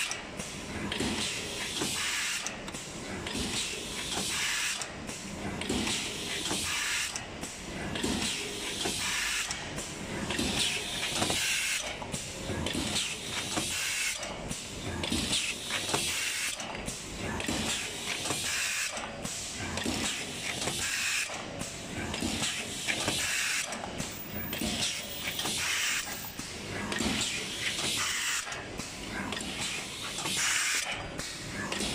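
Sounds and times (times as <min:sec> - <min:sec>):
machine hissing and knocking: 0:00.1 - 0:31.9.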